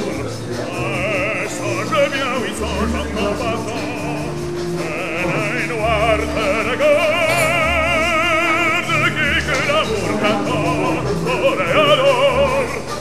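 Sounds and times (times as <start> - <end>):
solo voice singing with vibrato: 0.7 - 13.0.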